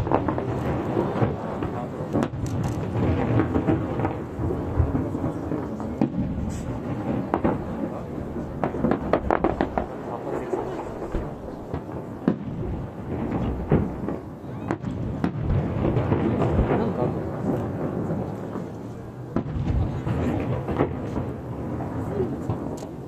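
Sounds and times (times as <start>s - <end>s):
firework cracks and crackles: 0.0s - 23.0s
firework shells booming: 0.0s - 23.0s.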